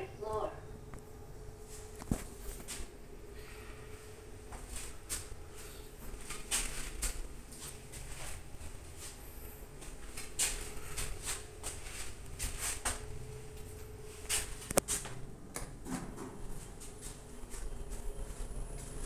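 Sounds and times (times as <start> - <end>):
faint elevator hum: 0.0 - 19.0.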